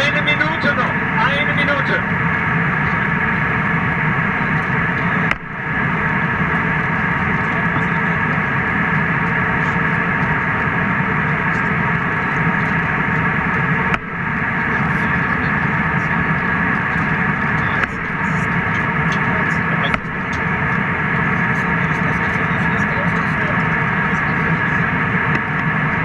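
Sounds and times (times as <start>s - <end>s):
airliner cabin noise: 0.0s - 26.0s
jet engine hum: 0.0s - 26.0s.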